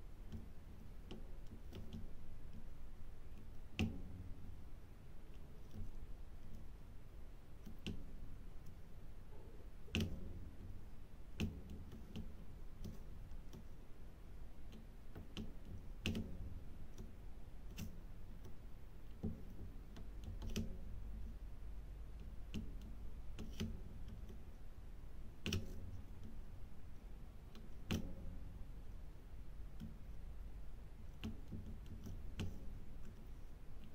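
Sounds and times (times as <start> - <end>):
faint low hum: 0.0 - 33.9.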